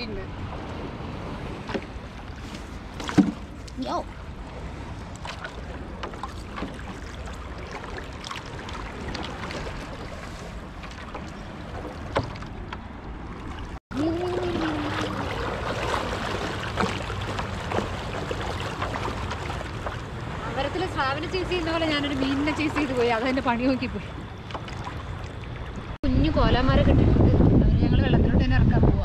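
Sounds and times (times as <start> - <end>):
wind rumbling on microphone: 0.0 - 29.0
seawater sloshing and splashing: 0.4 - 26.0.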